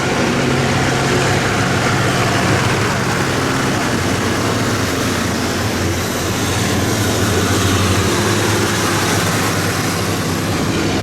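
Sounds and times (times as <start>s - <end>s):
tractor engines passing: 0.0s - 11.0s.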